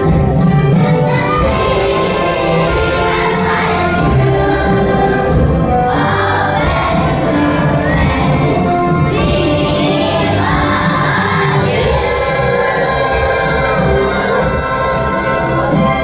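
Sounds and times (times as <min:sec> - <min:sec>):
children's choir singing: 0:00.0 - 0:16.0
instrumental accompaniment: 0:00.0 - 0:16.0.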